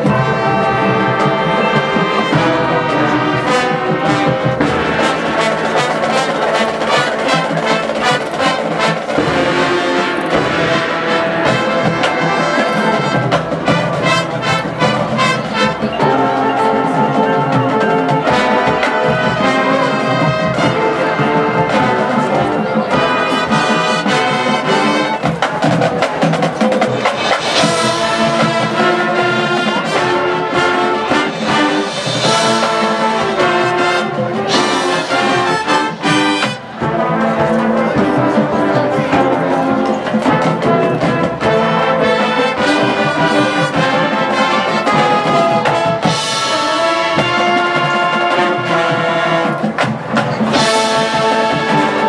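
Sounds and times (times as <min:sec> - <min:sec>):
marching band playing: 0:00.0 - 0:52.0.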